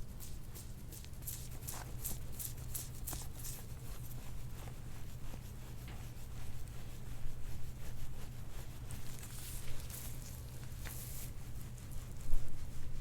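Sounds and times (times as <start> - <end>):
steady low hum: 0.0 - 13.0
hands rubbing on skin: 0.2 - 13.0.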